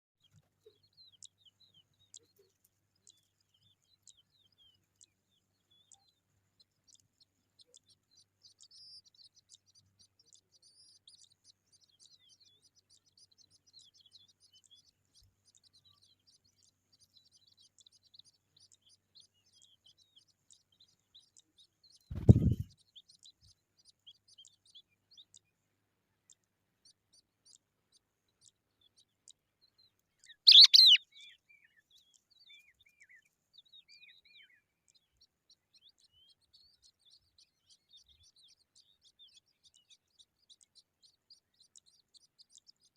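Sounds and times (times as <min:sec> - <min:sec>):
skylarks chirping: 0:00.2 - 0:42.9.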